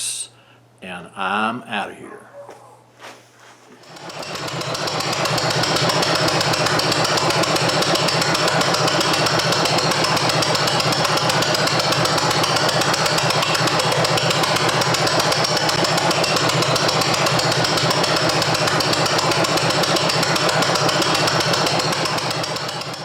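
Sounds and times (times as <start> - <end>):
two-cylinder engine running: 3.8 - 23.0.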